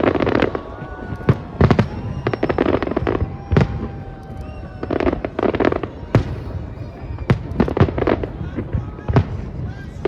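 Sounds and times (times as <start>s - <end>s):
fireworks bangs and crackling: 0.0s - 10.0s
fireworks whistling: 0.0s - 10.0s.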